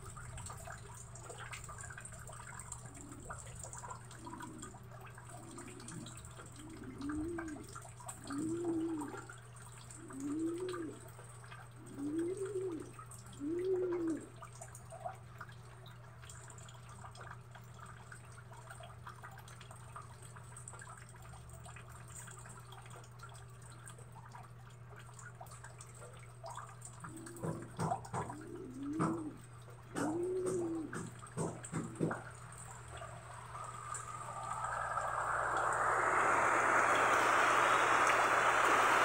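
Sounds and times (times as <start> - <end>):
rain pattering on concrete: 0.0 - 39.0.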